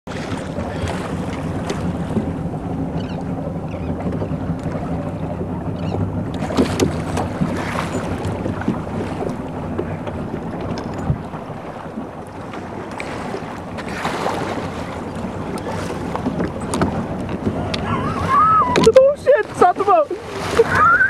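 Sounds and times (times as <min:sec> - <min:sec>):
boat motor running: 0:00.1 - 0:21.0.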